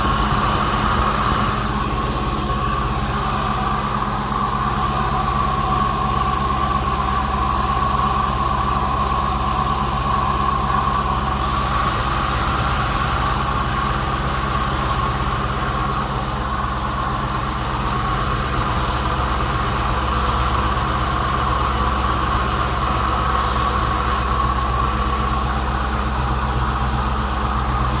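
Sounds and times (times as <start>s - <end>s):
car engine idling: 0.0s - 28.0s
engine ticking: 0.0s - 28.0s.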